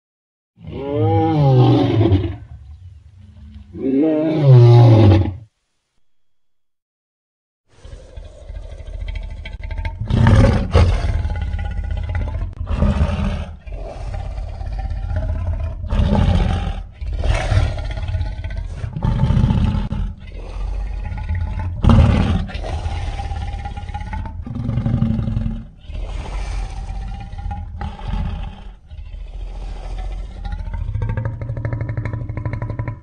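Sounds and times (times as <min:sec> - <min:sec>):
deep creature roars: 0:00.6 - 0:02.5, 0:07.8 - 0:33.0.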